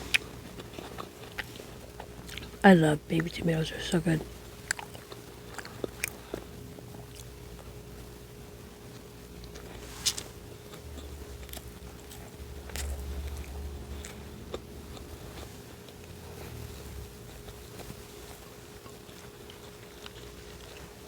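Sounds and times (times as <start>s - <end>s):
person chewing food: 0.0s - 2.6s, 4.2s - 8.1s, 8.8s - 21.0s.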